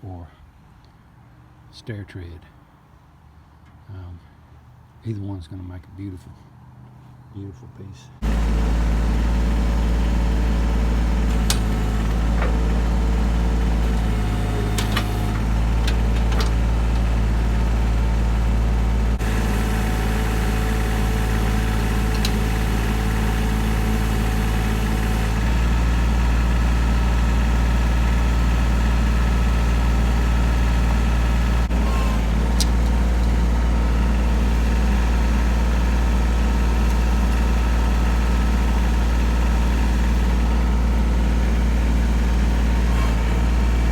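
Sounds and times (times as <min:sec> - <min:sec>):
engine droning: 0:05.6 - 0:43.9.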